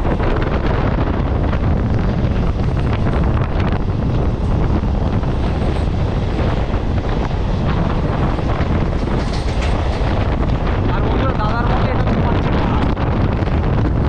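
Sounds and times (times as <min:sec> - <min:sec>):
train clattering: 0:00.0 - 0:14.0
train wheels rumbling on rails: 0:00.0 - 0:14.0
wind buffeting microphone: 0:00.0 - 0:14.0.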